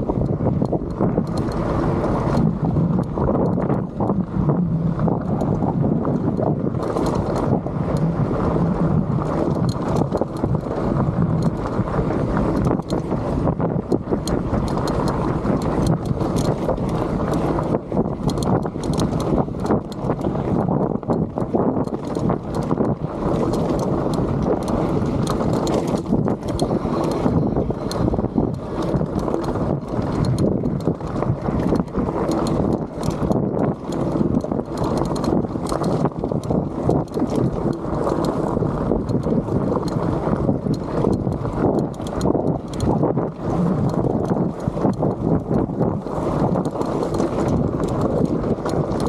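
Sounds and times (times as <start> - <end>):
wind on microphone: 0.0 - 49.0.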